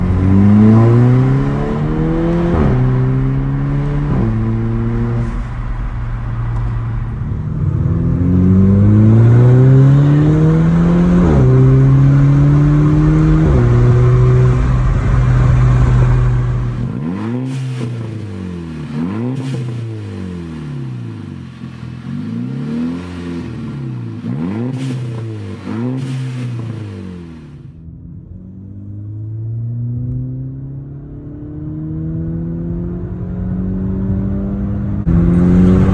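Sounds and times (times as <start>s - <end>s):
car engine accelerating: 0.0s - 35.9s
engine revving: 0.0s - 35.9s.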